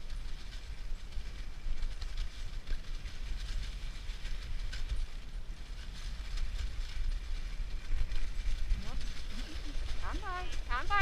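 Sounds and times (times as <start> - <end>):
sled frame rattling: 0.0 - 11.0
sled runners hissing on snow: 0.0 - 11.0
wind rumble on microphone: 0.0 - 11.0.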